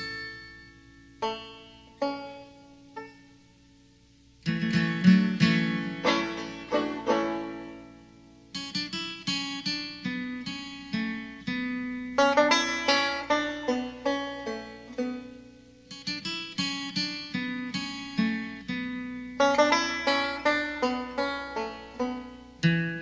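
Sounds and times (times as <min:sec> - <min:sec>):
plucked banjo music: 0:00.0 - 0:03.4, 0:04.4 - 0:23.0.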